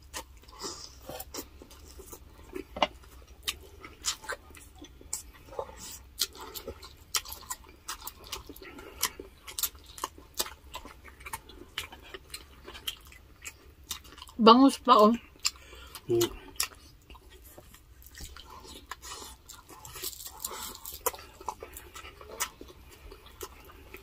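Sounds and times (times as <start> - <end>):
people chewing with lip smacks: 0.0 - 24.0.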